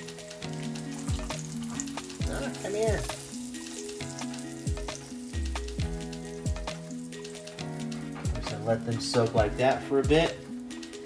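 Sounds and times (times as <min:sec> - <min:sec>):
utensil moving food in pan: 0:00.0 - 0:09.2
oil sizzling and crackling: 0:00.0 - 0:11.0.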